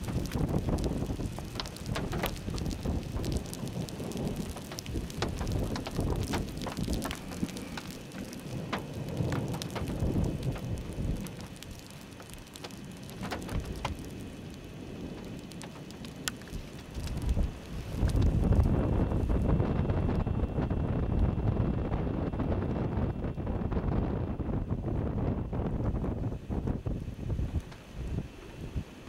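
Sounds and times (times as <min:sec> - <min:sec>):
low wind rumble: 0:00.0 - 0:29.0
rain drops hitting: 0:00.0 - 0:29.0.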